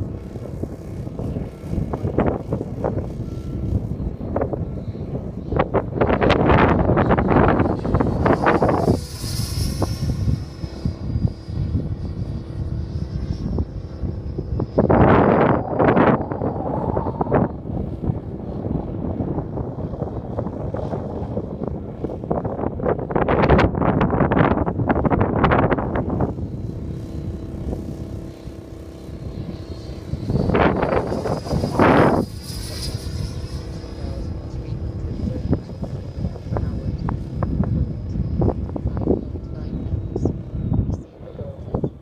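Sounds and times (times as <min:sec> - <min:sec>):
model airplane motor droning: 0:00.0 - 0:42.0
wind buffeting microphone: 0:00.0 - 0:42.0.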